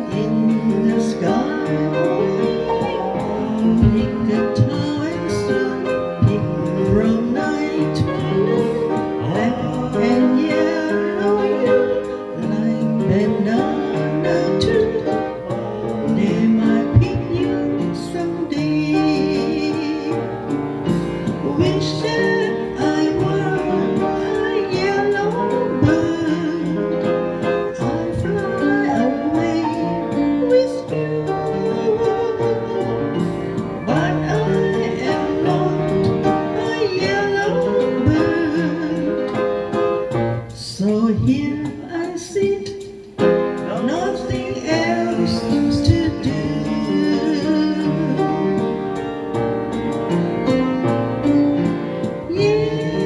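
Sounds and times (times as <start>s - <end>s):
woman singing with vibrato: 0.0s - 20.4s, 21.4s - 39.4s, 43.7s - 48.6s, 52.2s - 53.0s
instrumental accompaniment: 0.0s - 53.0s.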